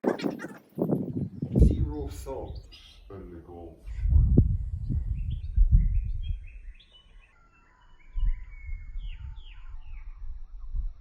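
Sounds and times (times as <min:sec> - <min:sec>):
birds chirping: 0:00.0 - 0:10.8
wind buffeting microphone: 0:00.0 - 0:11.0.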